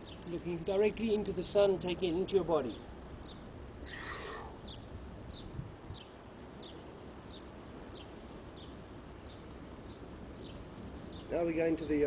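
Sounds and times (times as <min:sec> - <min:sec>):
bird chirping: 0:00.0 - 0:12.0
outdoor background noise: 0:00.0 - 0:12.0.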